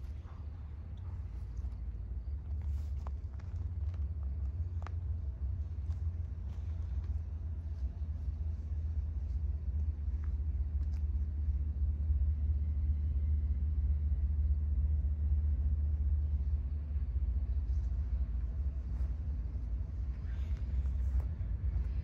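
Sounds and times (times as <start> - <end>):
distant diesel locomotive rumbling: 0.0 - 22.0.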